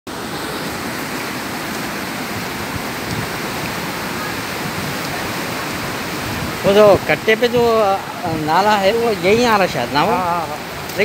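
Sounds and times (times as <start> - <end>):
floodwater rushing through drain: 0.1 - 11.0.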